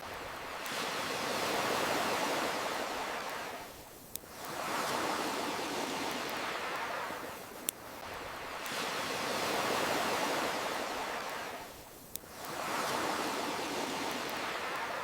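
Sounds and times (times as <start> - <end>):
campfire crackle: 0.0 - 15.0
ocean waves washing in: 0.0 - 15.0.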